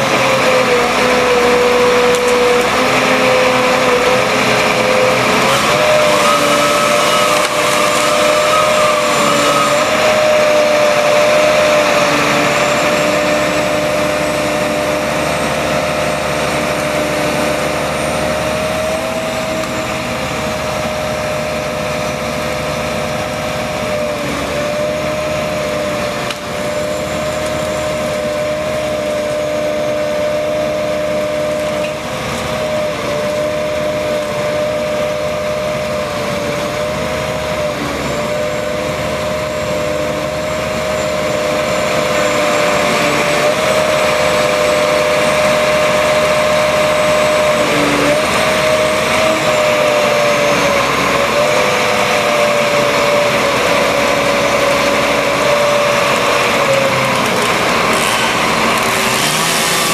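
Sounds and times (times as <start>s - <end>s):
circular saw whining: 0.0s - 59.9s
crane engine running: 0.0s - 59.9s.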